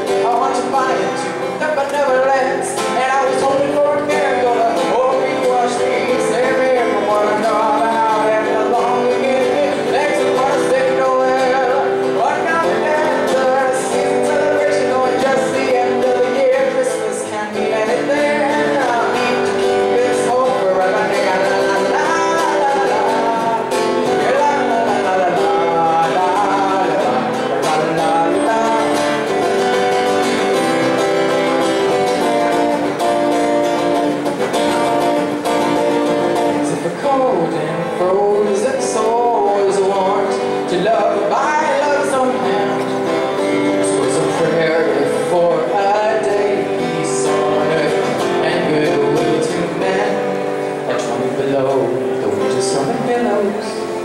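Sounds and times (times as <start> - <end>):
guitar: 0.0 - 54.0
person singing: 0.0 - 54.0.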